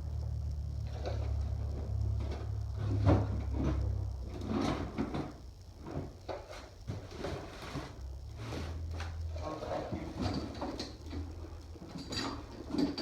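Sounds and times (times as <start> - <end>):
knocks scrapes and clatters of parts: 2.2 - 13.0.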